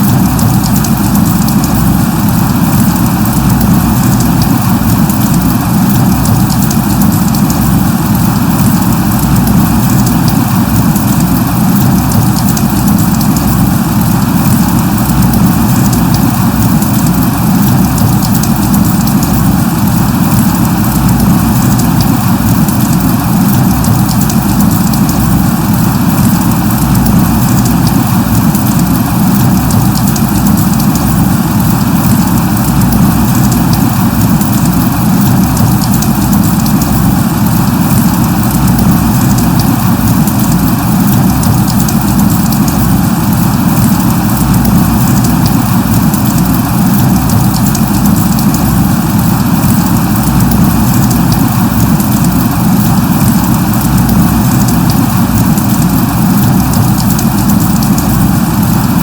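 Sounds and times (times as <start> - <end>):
light rain: 0.0 - 59.0.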